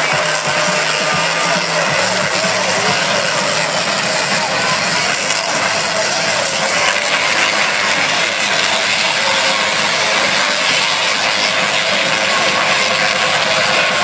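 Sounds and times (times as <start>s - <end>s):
tesla coils crackling buzz: 0.0s - 14.0s.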